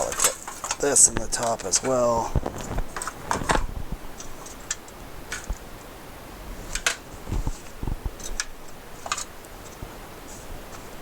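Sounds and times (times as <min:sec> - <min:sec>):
small parts clicking and knocking: 0:00.0 - 0:05.7, 0:06.6 - 0:09.9.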